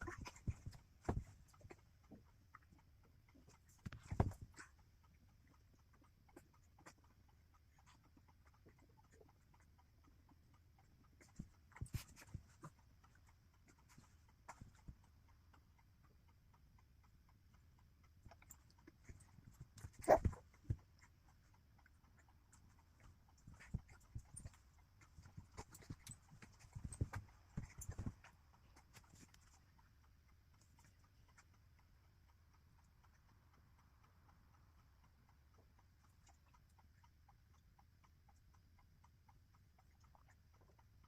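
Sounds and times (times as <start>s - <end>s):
faint low hum: 0.0s - 41.0s.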